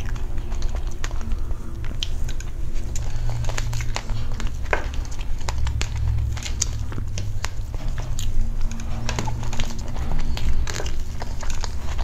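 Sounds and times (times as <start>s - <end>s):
chewing soft dessert: 0.0s - 12.0s
steady low hum: 0.0s - 12.0s.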